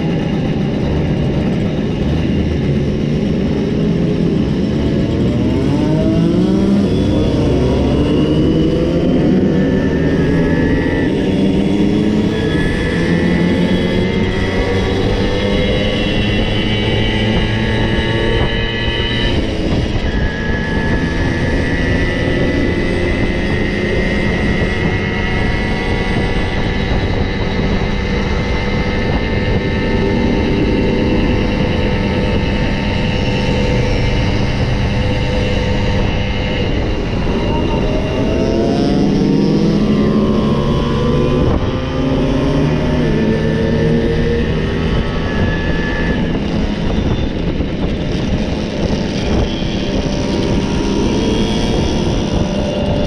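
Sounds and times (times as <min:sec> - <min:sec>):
heavy low rumble: 0:00.0 - 0:53.0
moped engines running: 0:00.0 - 0:53.0.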